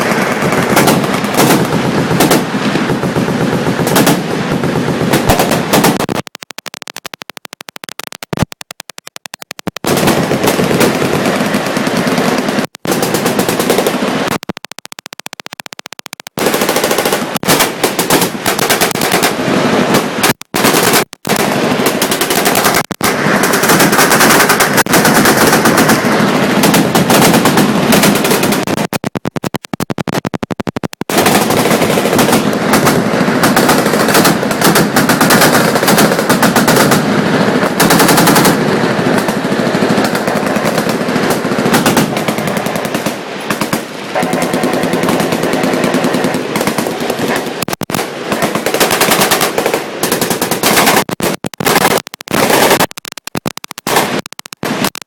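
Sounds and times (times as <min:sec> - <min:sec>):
machine gun automatic fire: 0:00.0 - 0:06.3, 0:09.8 - 0:14.4, 0:16.4 - 0:29.2, 0:31.0 - 0:53.0, 0:53.9 - 0:55.0.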